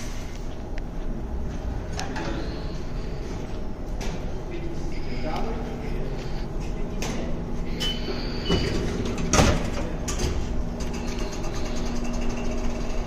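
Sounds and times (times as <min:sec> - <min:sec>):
low station hum: 0:00.0 - 0:13.0.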